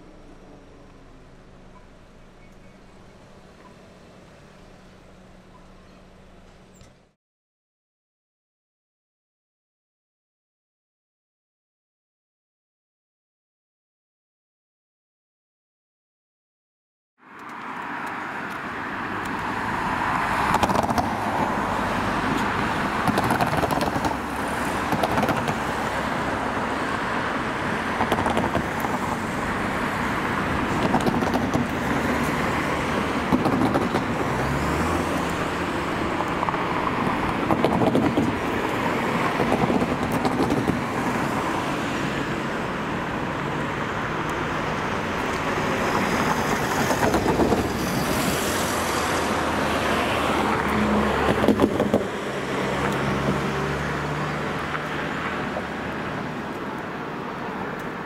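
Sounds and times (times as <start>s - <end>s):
road traffic noise: 0.0s - 7.2s, 17.2s - 58.0s.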